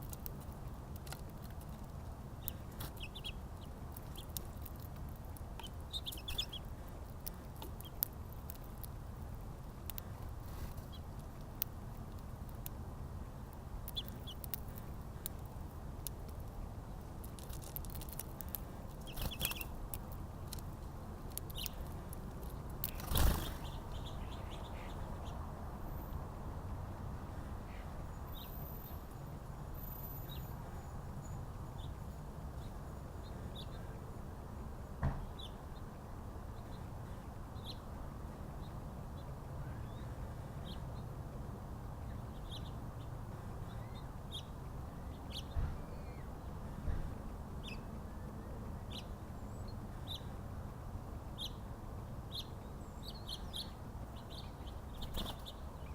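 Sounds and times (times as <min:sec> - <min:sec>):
small birds chirping: 0:00.0 - 0:26.4, 0:27.2 - 0:55.9.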